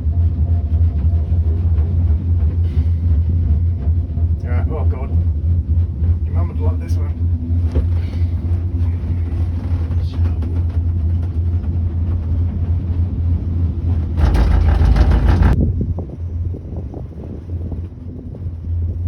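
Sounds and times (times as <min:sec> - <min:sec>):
gondola cabin hum: 0:00.0 - 0:19.0
gondola rumble: 0:00.0 - 0:19.0.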